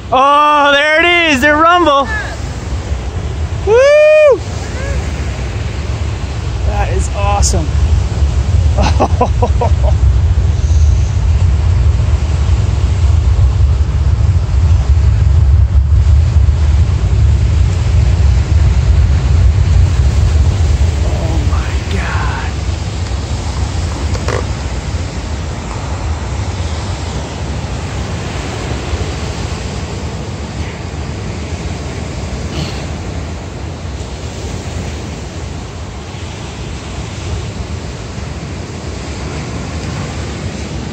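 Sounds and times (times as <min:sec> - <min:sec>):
distant rocket engine rumble: 0:00.0 - 0:40.9.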